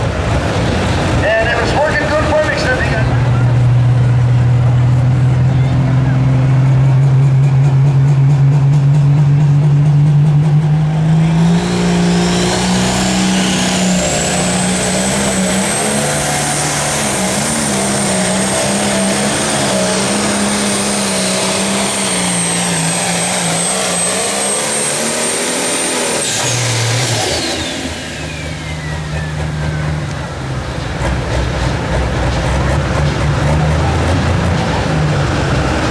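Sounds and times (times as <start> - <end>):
diesel tractor engine under load: 0.0 - 35.9
turbocharger whine: 0.0 - 35.9.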